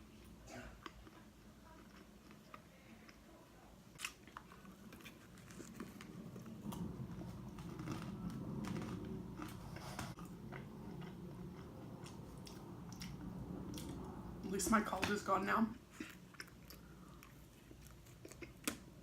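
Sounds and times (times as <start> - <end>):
chewing pizza with mouth clicks: 0.1 - 14.0, 15.8 - 19.0.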